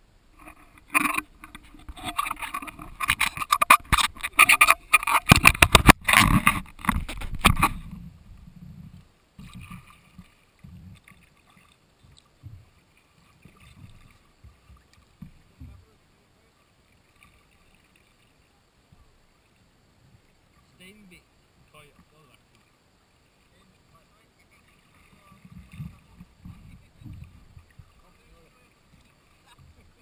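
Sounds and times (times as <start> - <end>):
paddle strokes splashing: 0.3 - 30.0.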